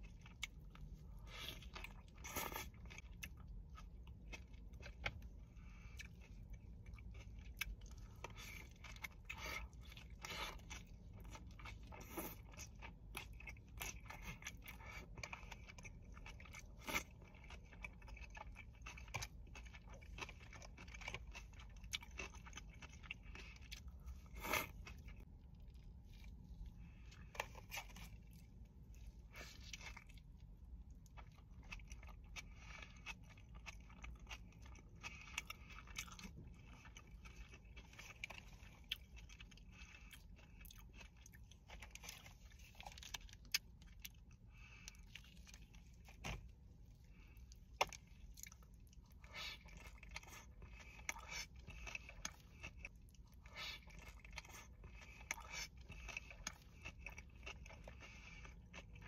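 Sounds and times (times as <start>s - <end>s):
faint low rumble: 0.0s - 59.0s
person chewing and crunching: 0.0s - 59.0s.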